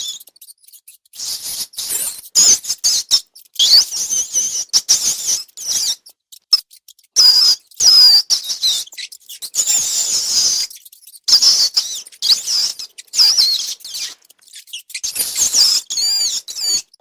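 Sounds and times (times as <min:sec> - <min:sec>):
rats squeaking: 0:00.0 - 0:17.0.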